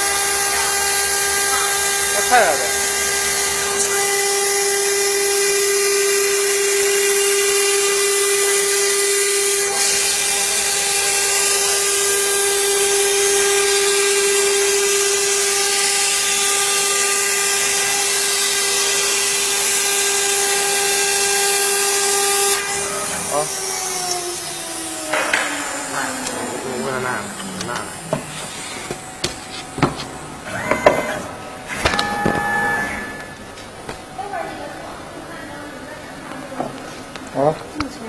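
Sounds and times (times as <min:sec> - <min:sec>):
router spindle whining: 0:00.0 - 0:33.8.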